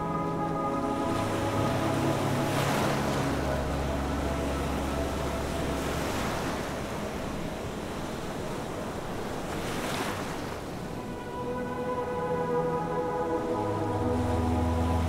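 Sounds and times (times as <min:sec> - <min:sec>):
ocean surf breaking over rocks: 0:00.0 - 0:15.0.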